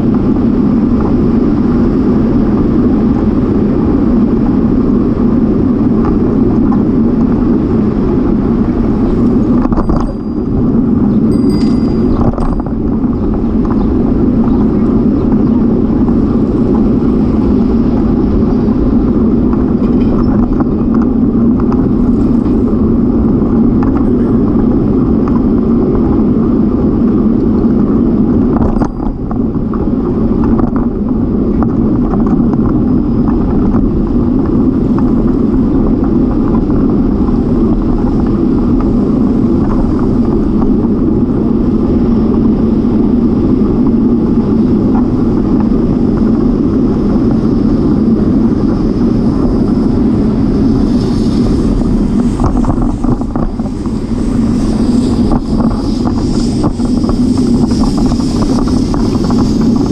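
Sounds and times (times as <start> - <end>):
bicycle road rumble: 0.0 - 59.9
wind: 0.0 - 59.9.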